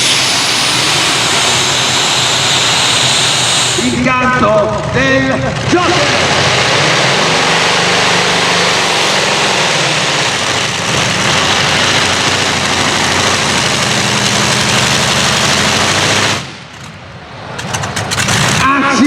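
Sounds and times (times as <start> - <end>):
tractor engine at full power: 0.0 - 19.0.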